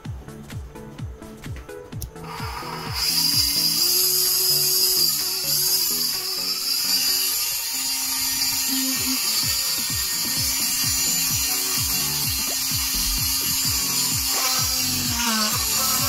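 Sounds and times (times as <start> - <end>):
background music: 0.0 - 16.0
high-speed motor whining: 2.2 - 16.0.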